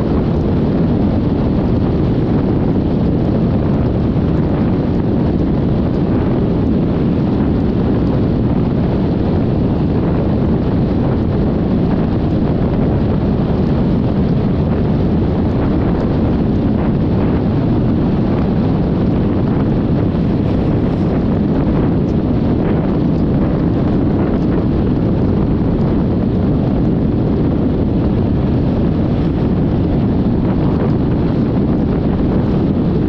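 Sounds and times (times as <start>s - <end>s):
road noise: 0.0s - 26.6s
wind buffeting microphone: 0.0s - 33.0s.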